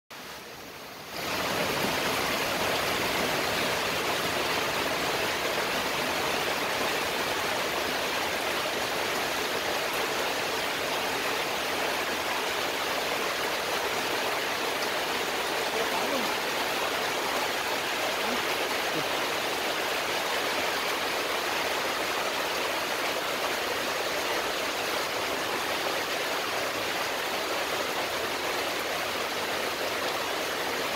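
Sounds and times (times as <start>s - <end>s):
heavy rain pouring: 0.2s - 30.9s.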